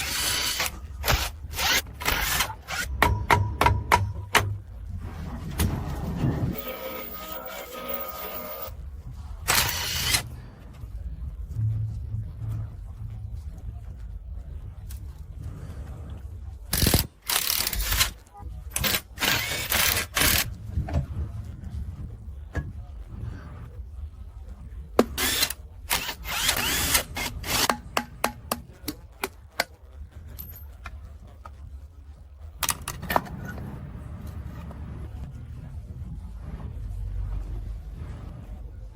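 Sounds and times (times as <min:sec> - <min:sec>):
steady low hum: 0:00.0 - 0:18.8, 0:19.4 - 0:38.9.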